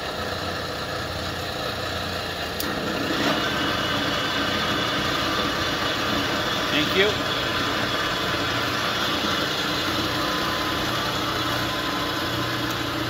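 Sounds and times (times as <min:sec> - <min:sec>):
lathe gears whirring: 0:00.0 - 0:13.0.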